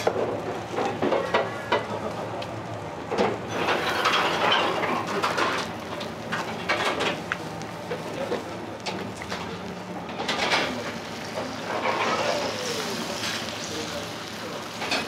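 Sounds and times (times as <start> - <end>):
batter sizzling on hot griddle: 0.0 - 15.0.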